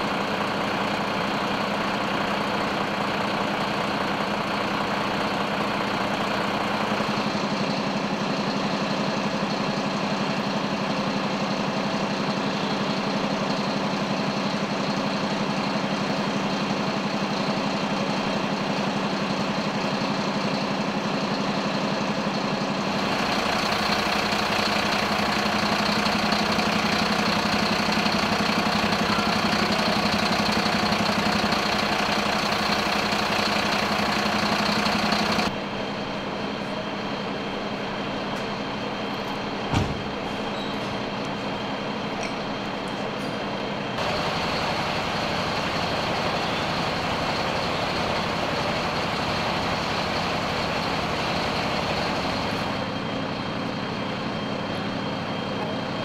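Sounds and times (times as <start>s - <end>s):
heavy engine idling: 0.0s - 56.0s.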